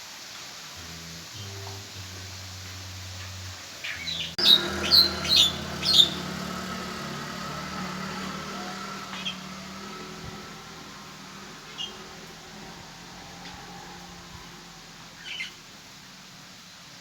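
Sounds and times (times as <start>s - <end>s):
small bird chirping: 0.8s - 16.4s.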